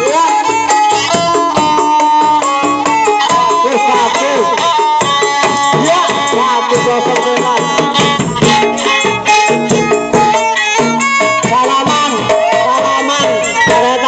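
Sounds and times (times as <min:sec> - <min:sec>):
drums: 0:00.0 - 0:14.0
folk music with held melodic notes: 0:00.0 - 0:14.0
rattling percussion: 0:00.0 - 0:14.0.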